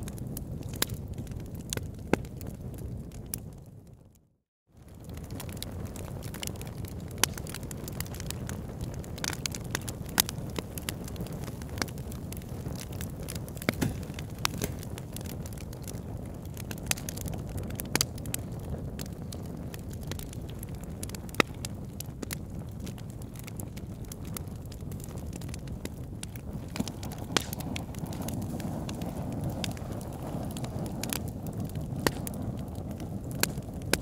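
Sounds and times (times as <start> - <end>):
wood fire crackling: 0.0 - 4.2, 4.8 - 34.0.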